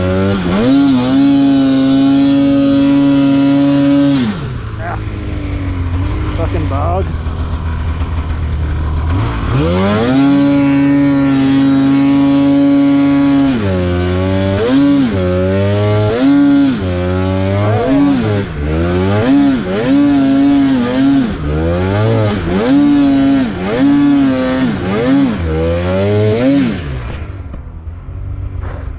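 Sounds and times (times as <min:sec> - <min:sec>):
snowmobile engine surging and bogging: 0:00.0 - 0:28.9.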